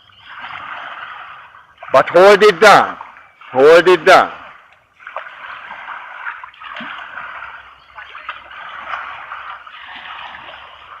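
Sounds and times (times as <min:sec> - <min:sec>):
kayak paddle splashing water: 0:00.0 - 0:11.0.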